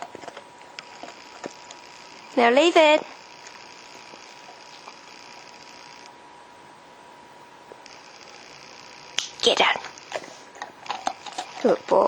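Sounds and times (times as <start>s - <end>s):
thin high whine: 0.0s - 12.0s.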